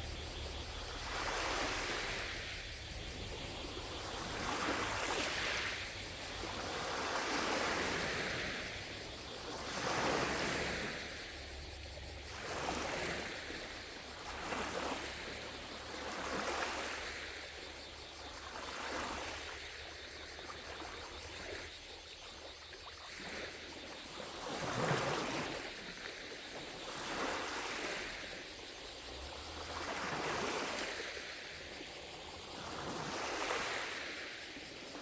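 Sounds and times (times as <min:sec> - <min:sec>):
lake waves lapping on shore: 0:00.0 - 0:11.6, 0:12.2 - 0:35.0.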